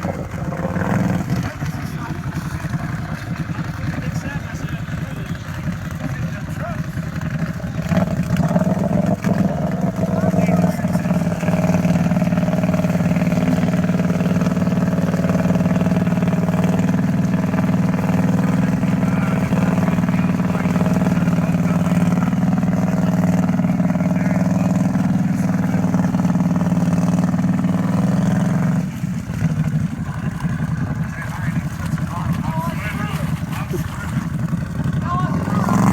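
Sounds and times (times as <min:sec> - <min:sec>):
vehicle engine at high revs: 0:00.0 - 0:35.9.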